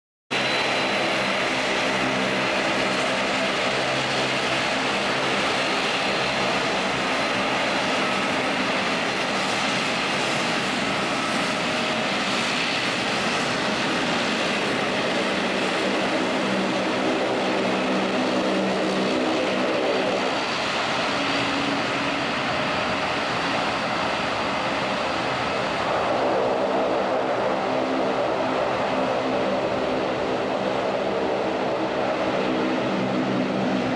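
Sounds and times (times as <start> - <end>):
turboprop engines taxiing: 0.4 - 33.9.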